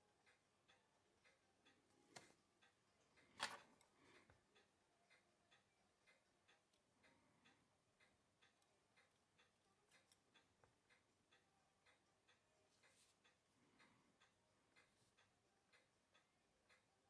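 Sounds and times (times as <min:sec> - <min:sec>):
watch ticking: 0:00.0 - 0:17.0.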